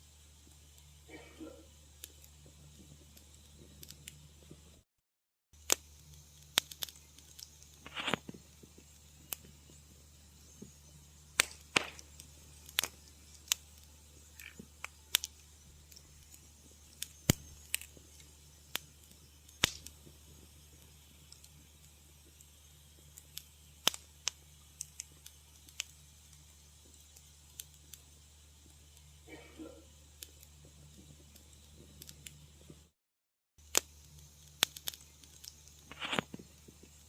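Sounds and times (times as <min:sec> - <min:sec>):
low steady hum: 0:00.0 - 0:04.8, 0:05.6 - 0:32.9
wood fire crackling: 0:00.0 - 0:04.8, 0:05.6 - 0:33.0, 0:33.6 - 0:37.0.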